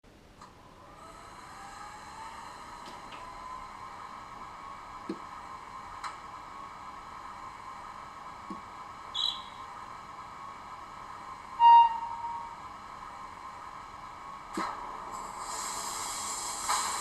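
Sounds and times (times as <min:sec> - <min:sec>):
model locomotive hum: 0:00.4 - 0:17.0.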